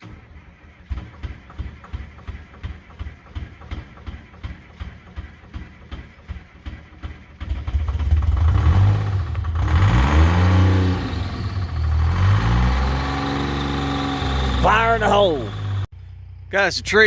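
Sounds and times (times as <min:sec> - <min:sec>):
diesel engine starting and revving: 0:00.0 - 0:17.0.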